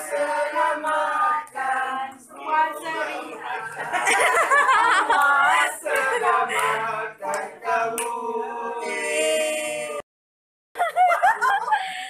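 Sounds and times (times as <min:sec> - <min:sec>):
adults and children singing: 0:00.0 - 0:10.0.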